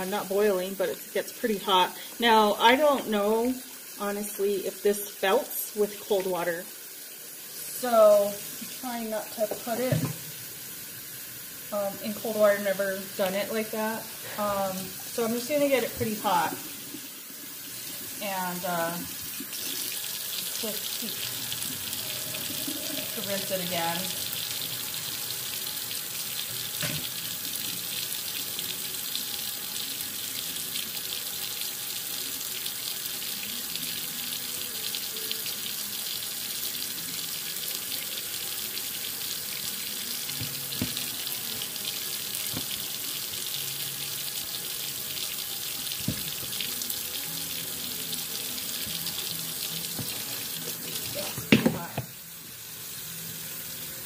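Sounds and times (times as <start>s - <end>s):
faucet running into sink: 0.0s - 54.0s.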